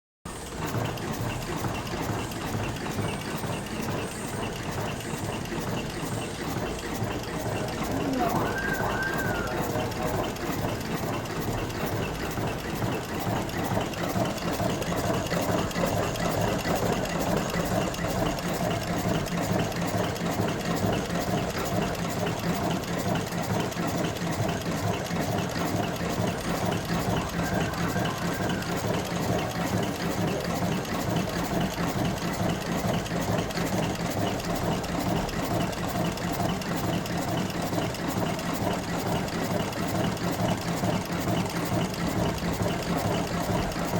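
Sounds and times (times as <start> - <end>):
cigarette rolling machine clatter: 0.3 - 43.9.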